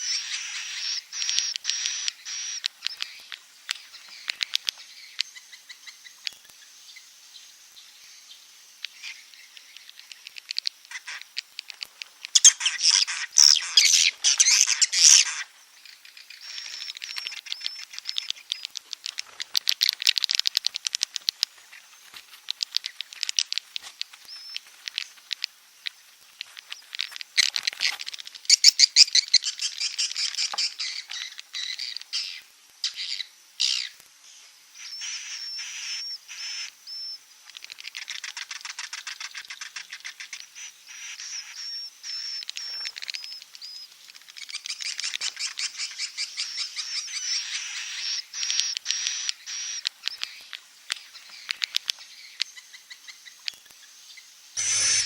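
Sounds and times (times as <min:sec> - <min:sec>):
swiftlet clicks and chirps: 0:00.0 - 0:06.6, 0:08.8 - 0:21.6, 0:22.4 - 0:34.0, 0:34.8 - 0:53.8
thin level chirps: 0:00.0 - 0:27.5, 0:34.7 - 0:55.0.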